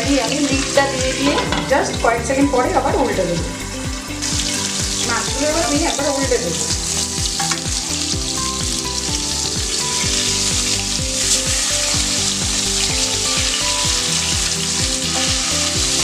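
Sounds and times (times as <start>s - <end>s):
background music with a beat: 0.0s - 16.0s
fish frying in oil: 0.0s - 16.0s.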